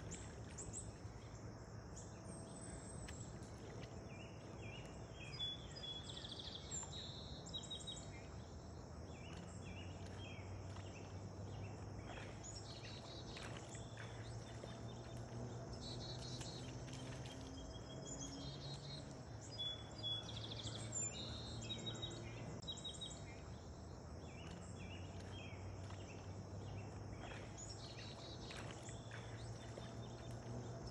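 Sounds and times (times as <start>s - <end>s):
birds chirping: 2.0s - 30.9s.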